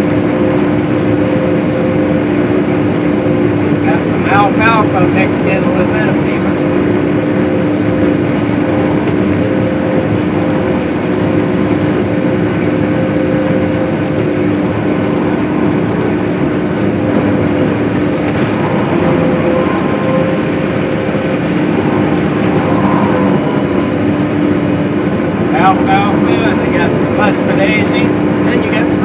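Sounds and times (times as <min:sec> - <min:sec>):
hay swather engine drone: 0:00.0 - 0:29.0.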